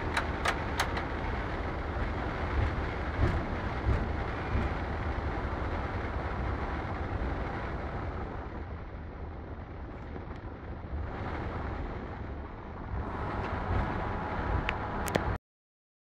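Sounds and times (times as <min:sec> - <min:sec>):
aircraft cockpit rumble: 0:00.0 - 0:15.4.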